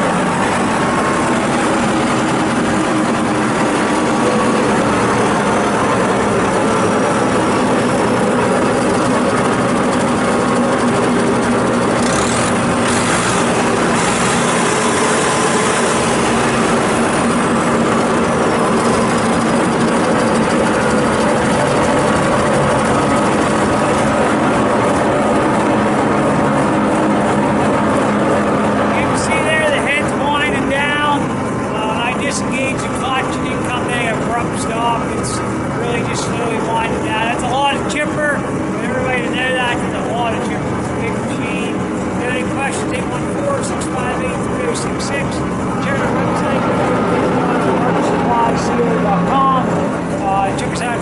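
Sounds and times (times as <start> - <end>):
wood chipper running: 0.0 - 51.0.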